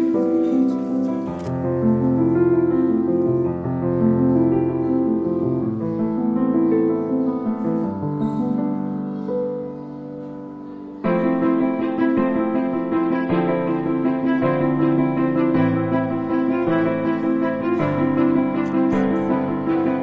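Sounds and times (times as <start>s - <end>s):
piano music with sustained chords: 0.0s - 20.0s.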